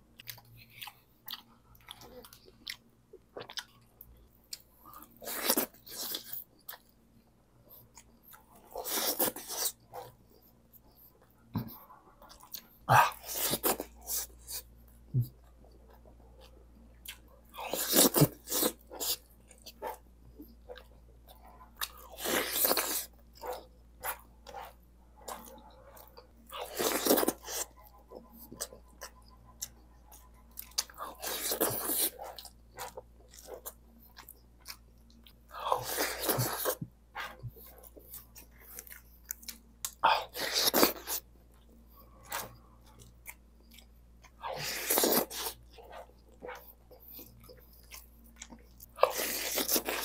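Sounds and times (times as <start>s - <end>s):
close chewing and mouth sounds: 0.0s - 50.0s.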